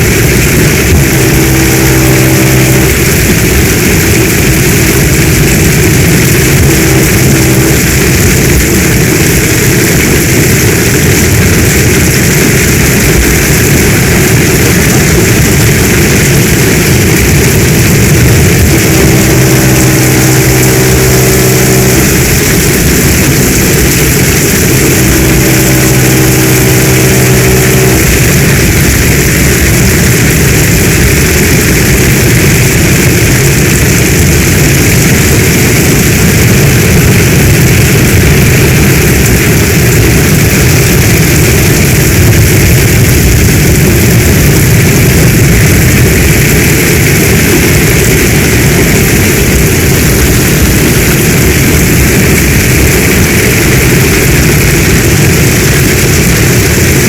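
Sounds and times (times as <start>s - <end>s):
heavy rain: 0.0s - 57.0s
low hum: 0.0s - 57.0s.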